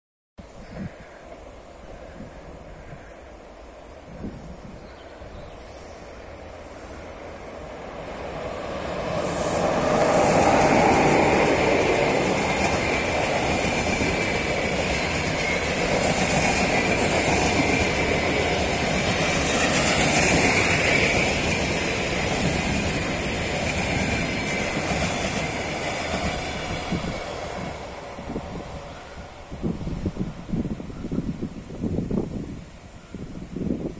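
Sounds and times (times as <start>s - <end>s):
passenger train passing: 0.4s - 33.9s.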